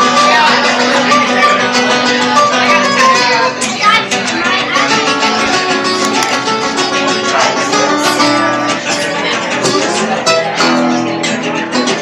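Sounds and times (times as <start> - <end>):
acoustic guitars playing: 0.0 - 12.0.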